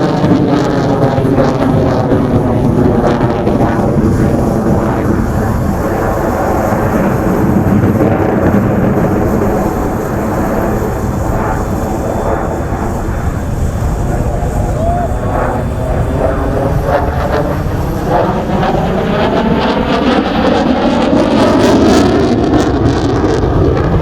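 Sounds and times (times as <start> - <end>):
fighter jet engines rumbling: 0.0 - 24.0.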